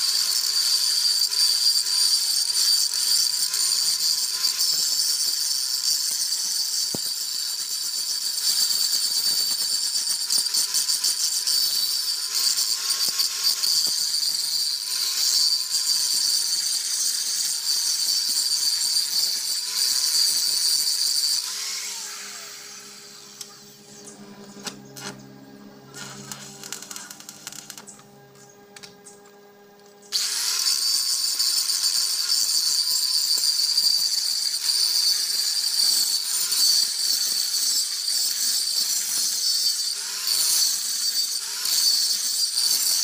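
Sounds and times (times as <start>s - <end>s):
electric grinder grinding metal: 0.0s - 43.0s.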